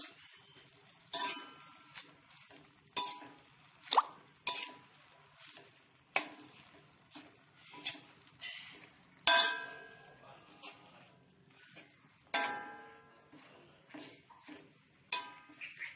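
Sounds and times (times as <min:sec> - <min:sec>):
metal spatula scraping a wok: 0:00.0 - 0:15.9.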